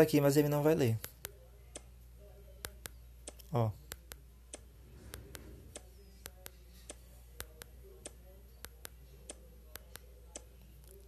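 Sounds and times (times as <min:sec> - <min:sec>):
low steady hum: 0:00.0 - 0:11.0
fingertips tapping touchscreen: 0:00.9 - 0:11.0.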